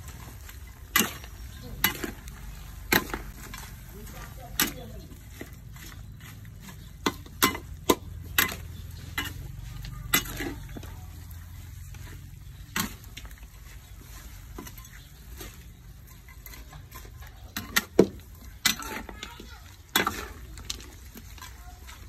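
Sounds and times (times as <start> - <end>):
metal spatula scraping a wok: 0.0 - 22.0.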